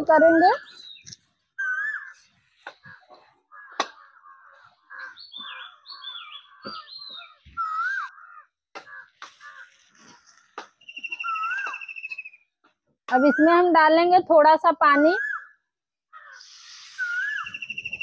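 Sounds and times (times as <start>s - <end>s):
birds calling: 0.6s - 12.6s, 15.2s - 18.0s.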